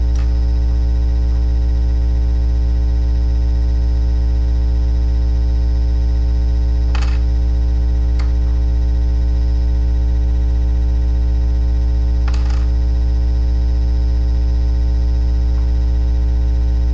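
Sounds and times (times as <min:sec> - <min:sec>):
loud electrical hum: 0:00.0 - 0:16.9.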